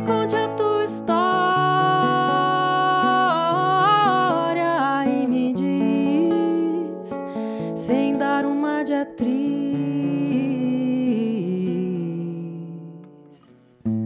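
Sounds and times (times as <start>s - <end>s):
woman singing: 0.0s - 13.3s
acoustic guitar: 0.0s - 14.0s.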